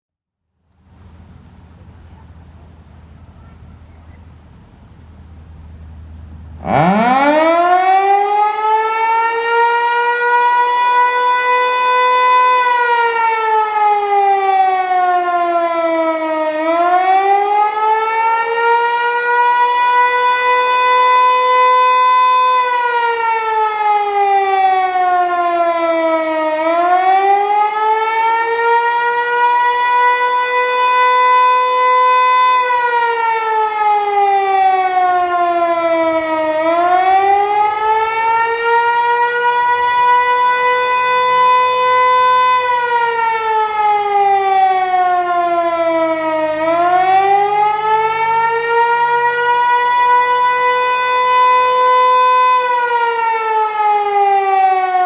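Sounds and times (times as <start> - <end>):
electronic siren wailing: 6.6 - 55.0.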